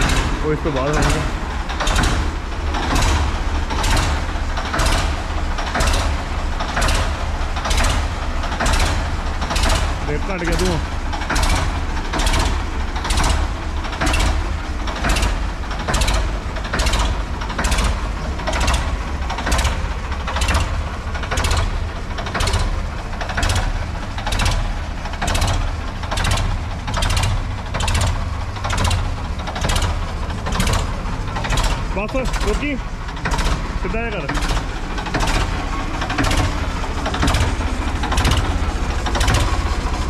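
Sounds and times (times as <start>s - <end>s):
tractor engine rumbling: 0.0s - 40.0s.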